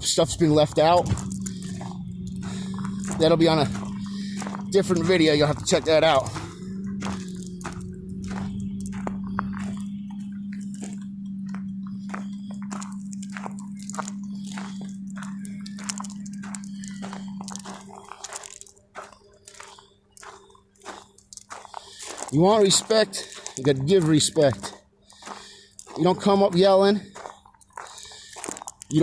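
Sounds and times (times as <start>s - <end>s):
steady low hum: 0.0s - 27.2s
footsteps on gravel: 0.0s - 29.0s.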